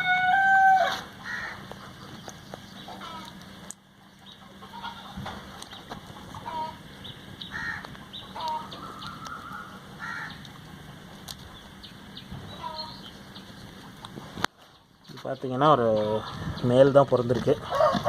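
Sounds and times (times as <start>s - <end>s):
chickens clucking: 0.9s - 18.0s.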